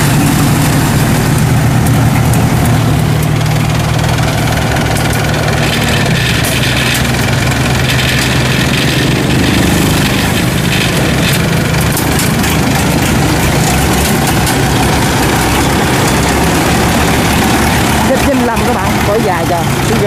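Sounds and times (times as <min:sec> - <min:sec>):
harvester engine running: 0:00.0 - 0:20.0.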